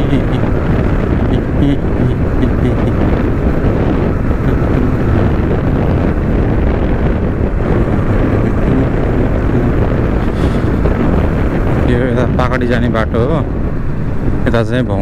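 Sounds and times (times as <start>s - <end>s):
motorbike engine running: 0.0s - 14.4s
wind noise on microphone: 0.0s - 15.0s.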